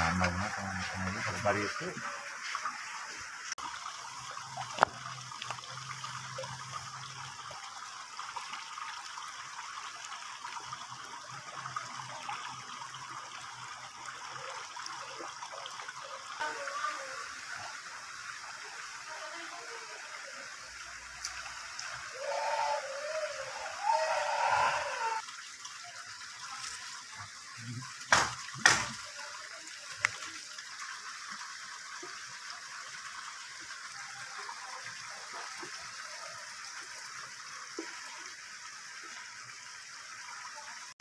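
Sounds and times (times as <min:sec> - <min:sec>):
running water trickling: 0:00.0 - 0:41.0.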